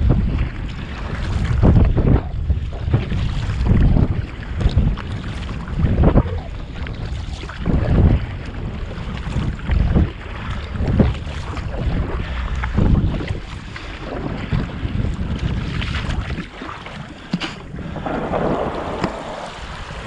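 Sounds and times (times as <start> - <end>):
paddle splashing water: 0.0 - 20.0
wind buffeting microphone: 0.0 - 20.0.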